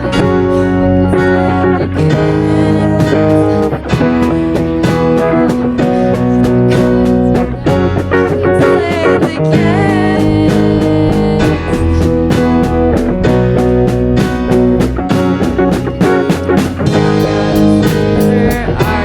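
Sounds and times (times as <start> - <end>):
instrumental band music: 0.0 - 19.0.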